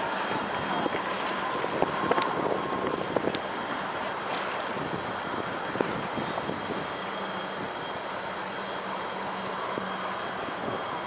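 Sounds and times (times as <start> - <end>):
rippling floodwater: 0.0 - 11.0.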